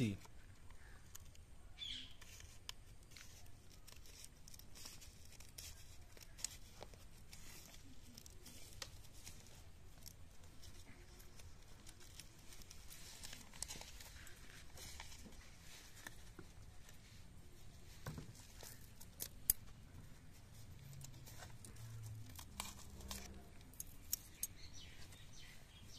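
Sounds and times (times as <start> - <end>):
plastic crinkling: 2.1 - 25.9.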